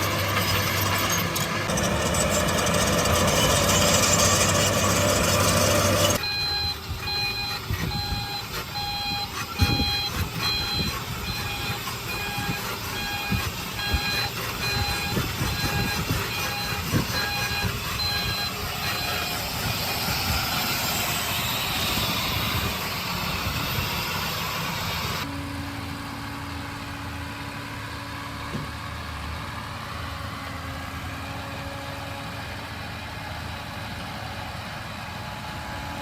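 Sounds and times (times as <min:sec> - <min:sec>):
engine idling with hum: 0:00.0 - 0:36.0
heavy diesel machinery running: 0:00.0 - 0:36.0.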